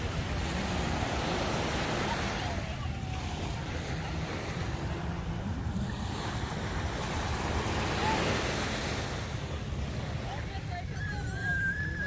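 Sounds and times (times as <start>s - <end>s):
sea surf washing on beach: 0.0s - 12.0s.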